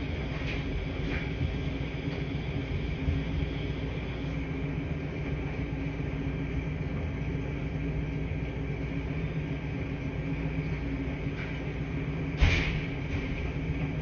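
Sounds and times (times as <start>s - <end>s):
laundry machines humming: 0.0s - 14.0s.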